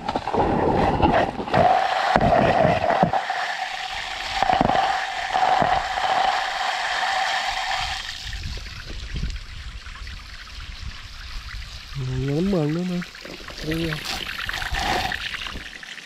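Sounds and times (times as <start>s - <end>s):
water jet rushing: 0.0s - 16.0s.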